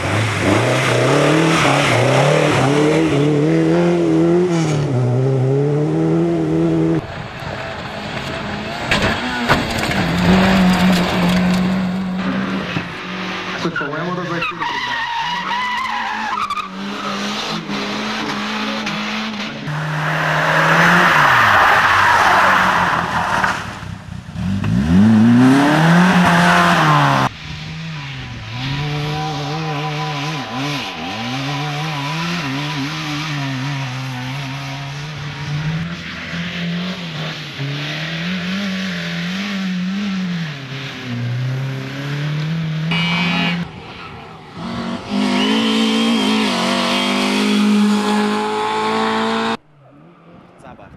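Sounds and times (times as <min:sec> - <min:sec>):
tyre noise of passing car: 0:00.0 - 0:50.8
rally car engines revving: 0:00.0 - 0:50.9.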